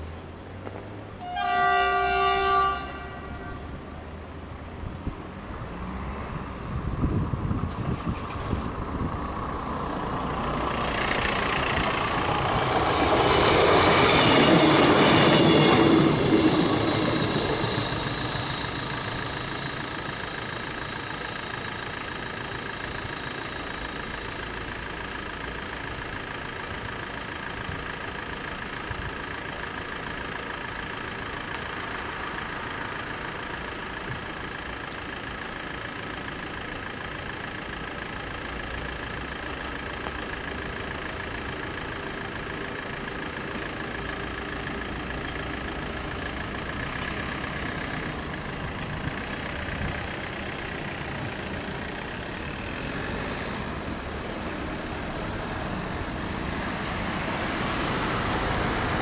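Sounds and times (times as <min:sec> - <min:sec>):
diesel railbus passing: 0:00.0 - 0:59.0.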